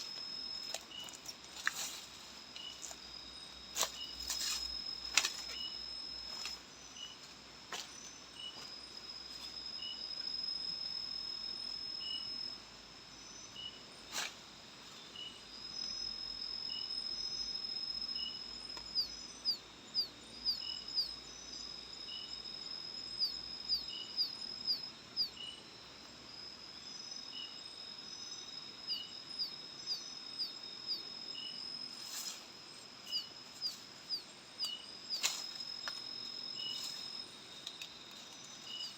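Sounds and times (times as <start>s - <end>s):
cricket-like trill: 0.0s - 38.9s
soft insect chirps: 0.0s - 38.9s.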